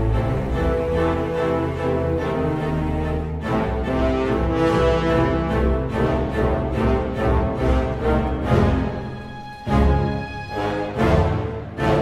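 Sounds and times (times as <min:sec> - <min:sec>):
loud orchestral music: 0:00.0 - 0:12.0.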